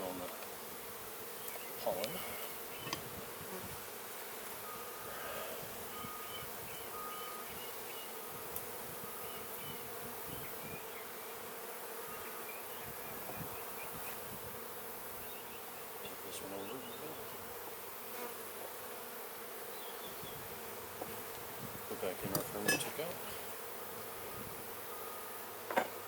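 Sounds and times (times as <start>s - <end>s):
honeybees humming: 0.0s - 26.0s.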